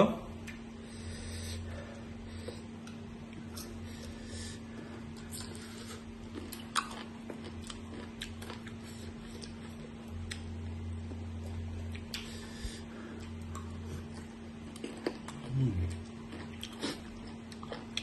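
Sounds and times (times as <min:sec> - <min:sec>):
low hum: 0:00.0 - 0:17.8
crunching and chewing: 0:02.4 - 0:18.0.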